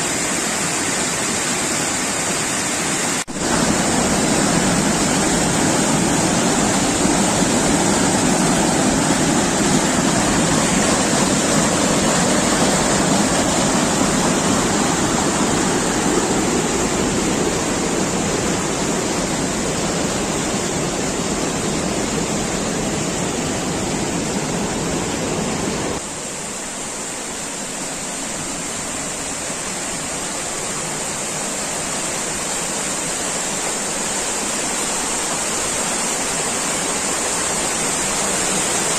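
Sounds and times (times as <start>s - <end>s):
stream rushing over boulders: 0.0s - 38.9s.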